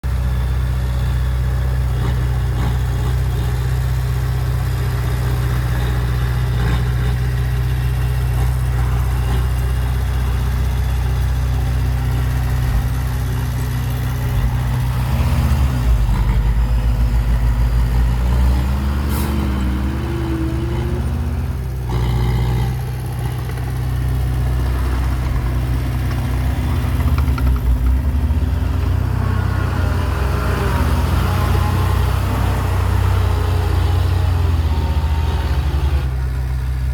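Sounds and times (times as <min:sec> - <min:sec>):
diesel engine running and revving: 0:00.0 - 0:36.9.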